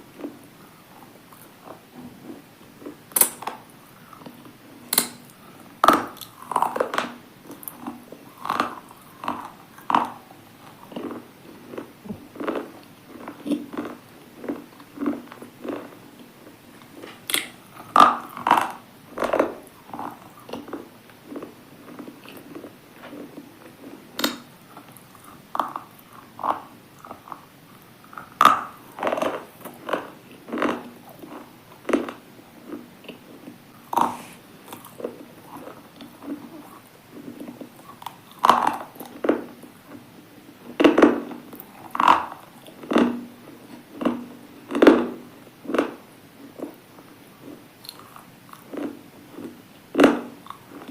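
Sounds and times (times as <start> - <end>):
crunchy food chewing: 1.0 - 50.9.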